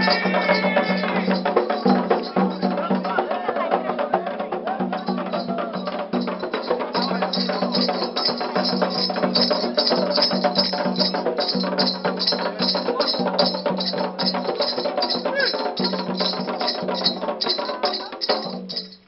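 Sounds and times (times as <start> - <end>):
bell or shaker beat: 0.0 - 19.0
drums: 0.0 - 19.0.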